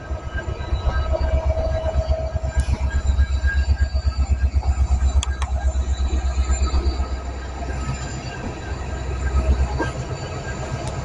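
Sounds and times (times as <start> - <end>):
train rumbling on board: 0.0 - 11.0.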